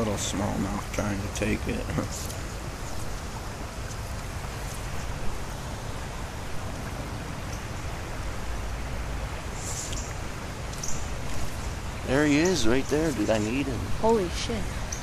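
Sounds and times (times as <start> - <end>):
flowing creek water: 0.0 - 15.0.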